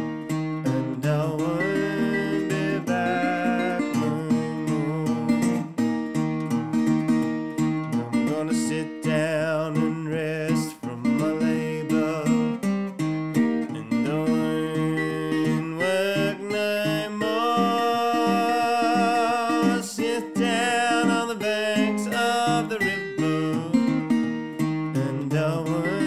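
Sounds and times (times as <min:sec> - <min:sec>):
fingerpicked resonator guitar: 0:00.0 - 0:26.0.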